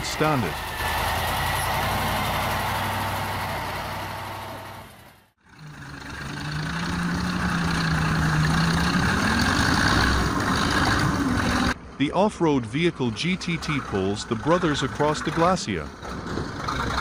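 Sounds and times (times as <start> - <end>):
heavy truck engine running: 0.0 - 11.8, 13.2 - 17.0
tracked vehicle engine: 0.0 - 17.0.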